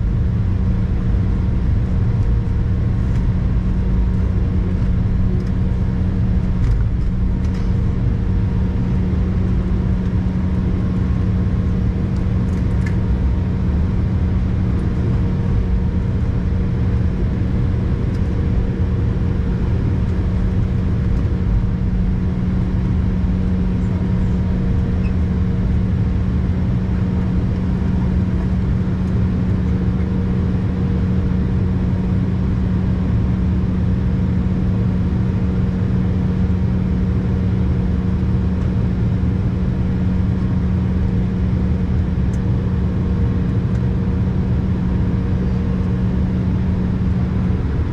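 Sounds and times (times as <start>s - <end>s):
vehicle cabin rumble: 0.0s - 47.9s.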